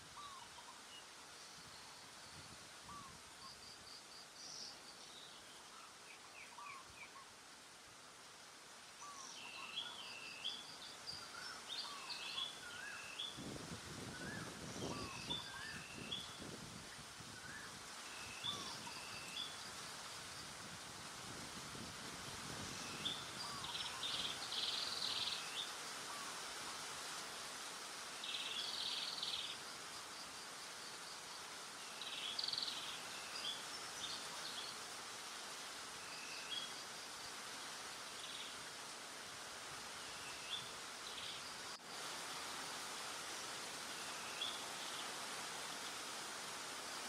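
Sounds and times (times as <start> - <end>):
outdoor background hiss: 0.0 - 47.0.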